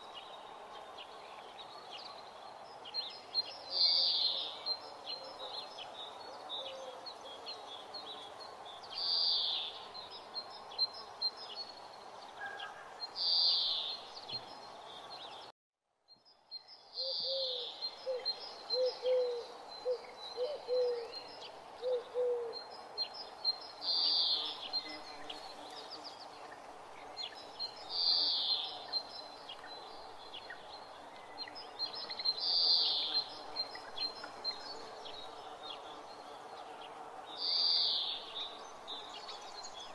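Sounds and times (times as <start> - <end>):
background hiss: 0.0 - 15.5, 16.3 - 39.9.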